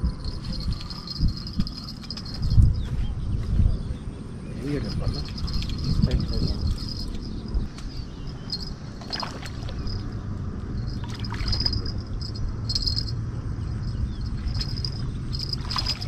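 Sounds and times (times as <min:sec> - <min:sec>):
insects chirping: 0:00.0 - 0:02.9, 0:04.0 - 0:16.0
low outdoor rumble: 0:00.0 - 0:16.0.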